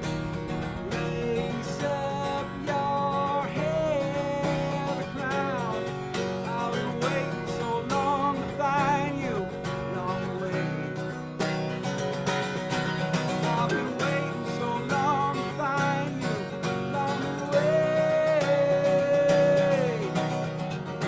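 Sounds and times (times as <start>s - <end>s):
person singing: 0.0s - 12.0s, 12.9s - 21.0s
acoustic guitar strumming: 0.0s - 21.0s.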